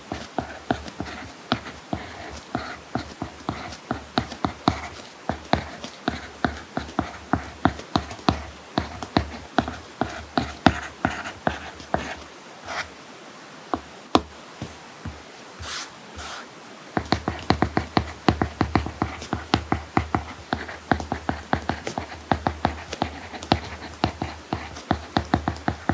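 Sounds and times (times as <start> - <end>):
stylus tapping and scratching on screen: 0.0 - 12.9, 17.0 - 25.9.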